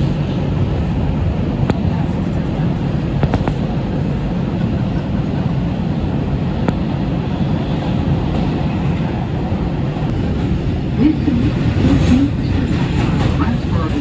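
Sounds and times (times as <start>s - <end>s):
subway train wheels rumbling on rail: 0.0s - 14.0s.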